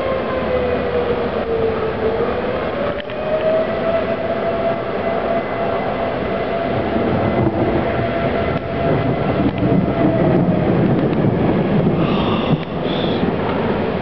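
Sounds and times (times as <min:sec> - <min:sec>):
warning siren wailing: 0:00.0 - 0:14.0
wind noise on microphone: 0:00.0 - 0:14.0.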